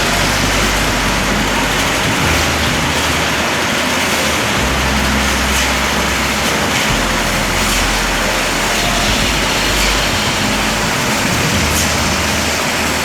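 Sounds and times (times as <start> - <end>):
loud machine noise: 0.0 - 13.0
low engine rumble: 0.0 - 13.0.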